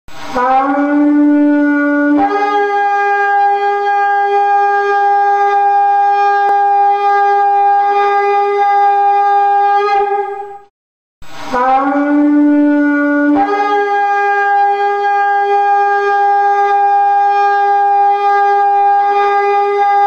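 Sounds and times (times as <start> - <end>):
shofar blast: 0.1 - 10.7, 11.3 - 20.0.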